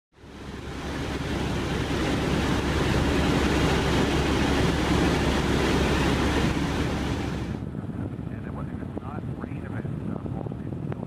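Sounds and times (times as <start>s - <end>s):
helicopter rotor and engine rumble: 0.2s - 11.0s.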